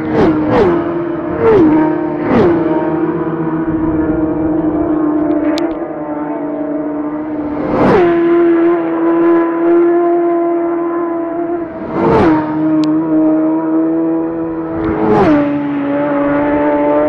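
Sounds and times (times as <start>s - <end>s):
racing motorcycles passing by: 0.0s - 17.0s.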